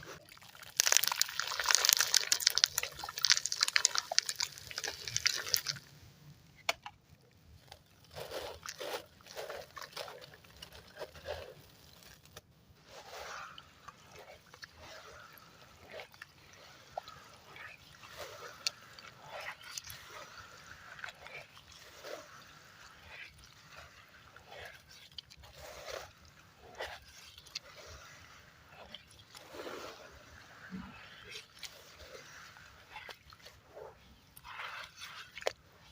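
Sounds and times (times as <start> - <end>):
water sloshing: 0.0 - 6.1, 7.8 - 35.9
cement chunks crushing in water: 0.0 - 35.9.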